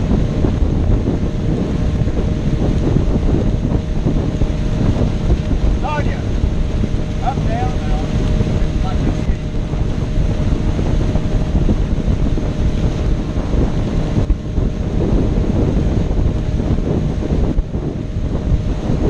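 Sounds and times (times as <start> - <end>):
boat engine: 0.0 - 19.0
churning boat wake: 0.0 - 19.0
wind buffeting microphone: 0.0 - 19.0.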